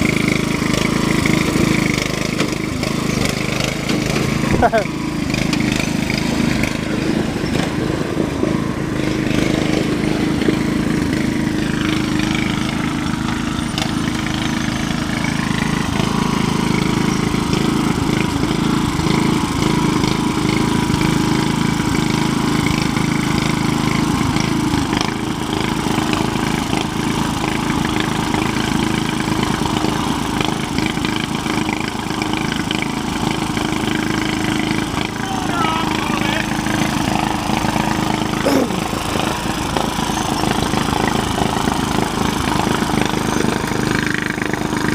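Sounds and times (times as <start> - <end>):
tractor engine droning: 0.0 - 44.9.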